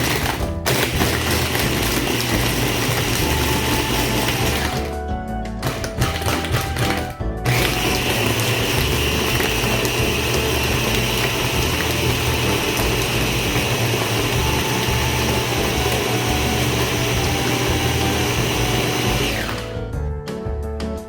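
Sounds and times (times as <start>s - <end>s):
blender running: 0.0s - 5.0s, 5.6s - 19.9s
music: 0.0s - 21.0s.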